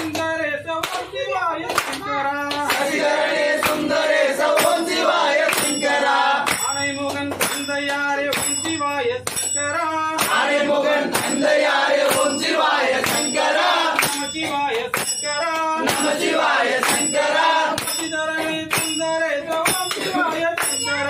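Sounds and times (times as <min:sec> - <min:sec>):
group singing a chant: 0:00.0 - 0:06.8, 0:10.1 - 0:20.4
ringing metallic beat: 0:02.4 - 0:21.0.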